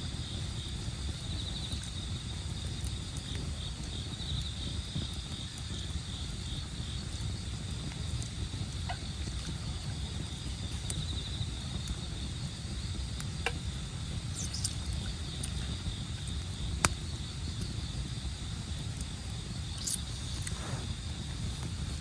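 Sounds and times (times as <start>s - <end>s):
campfire crackling pops: 0.0s - 22.0s
insects chirring: 0.0s - 22.0s
low steady rumble: 0.0s - 22.0s.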